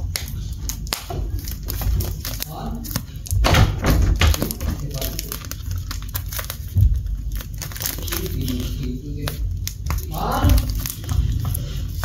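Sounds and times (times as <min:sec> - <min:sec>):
cardboard and tape crinkling: 0:00.0 - 0:12.0.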